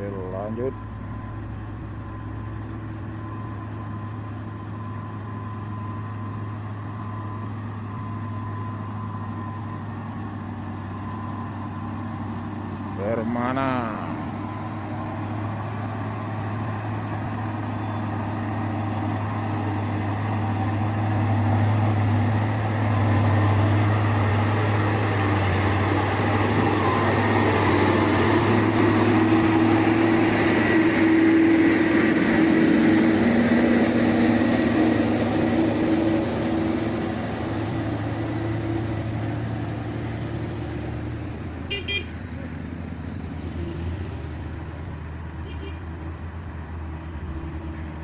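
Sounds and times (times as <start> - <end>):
truck diesel engine running: 0.0 - 48.0.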